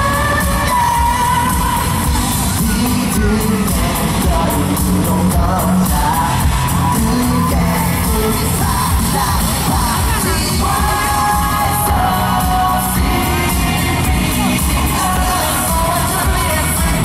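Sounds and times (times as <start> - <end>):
live pop song over sound system: 0.0 - 17.0.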